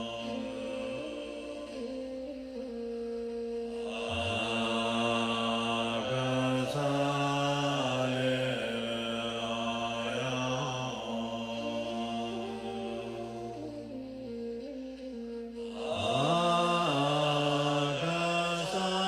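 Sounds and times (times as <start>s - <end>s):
man chanting in long tones: 0.0s - 19.0s
steady held tone: 0.0s - 19.0s.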